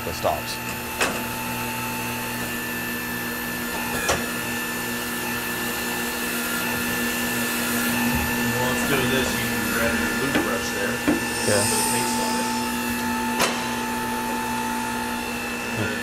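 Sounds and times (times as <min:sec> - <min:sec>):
electric motor hum and whine: 0:00.0 - 0:16.0.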